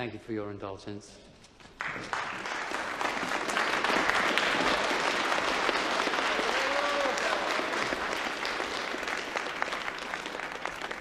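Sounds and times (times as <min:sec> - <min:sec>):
crowd applause: 0:01.8 - 0:11.0.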